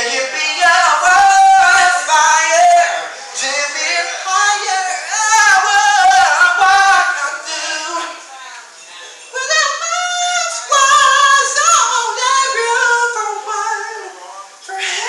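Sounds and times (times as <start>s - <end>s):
man singing unaccompanied: 0.0s - 8.2s, 9.3s - 15.0s.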